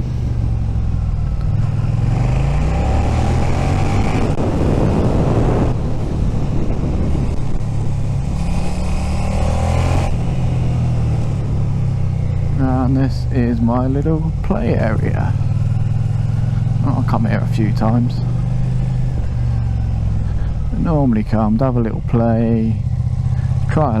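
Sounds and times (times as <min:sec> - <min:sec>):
motorcycle engine accelerating: 0:00.0 - 0:24.0
wind noise: 0:00.0 - 0:24.0.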